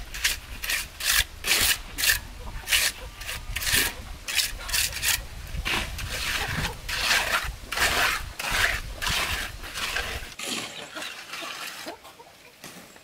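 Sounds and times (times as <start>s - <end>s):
trowel scraping wet concrete: 0.0s - 12.9s.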